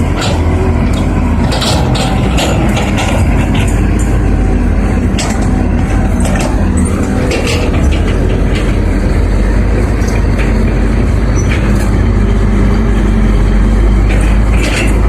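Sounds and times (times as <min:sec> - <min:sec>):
metal clanks and knocks: 0:00.0 - 0:13.2, 0:13.9 - 0:15.0
diesel machinery rumbling: 0:00.0 - 0:15.0.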